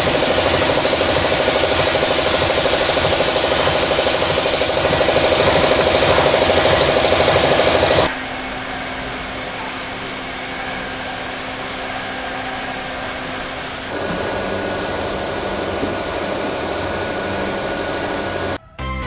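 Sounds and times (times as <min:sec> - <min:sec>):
factory machinery buzzing hum: 0:00.0 - 0:18.6.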